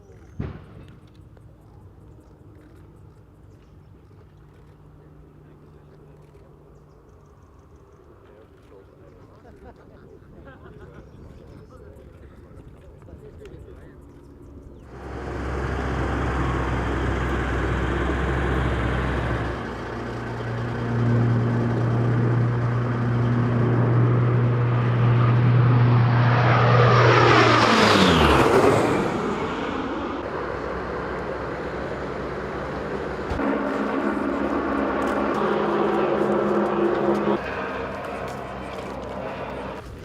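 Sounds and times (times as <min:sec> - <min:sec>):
propeller aircraft passing overhead: 0:00.0 - 0:40.0.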